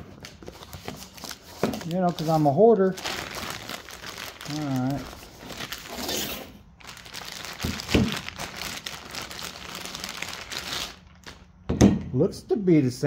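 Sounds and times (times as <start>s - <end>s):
plastic bag crinkling: 0.1s - 11.6s.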